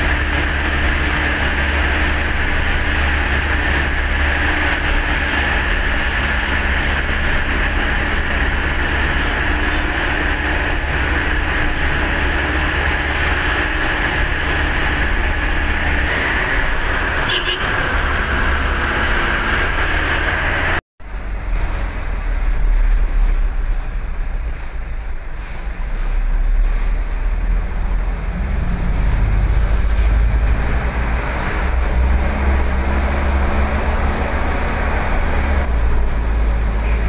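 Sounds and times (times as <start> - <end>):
diesel truck engine running: 0.0 - 37.0
road noise: 0.0 - 37.0.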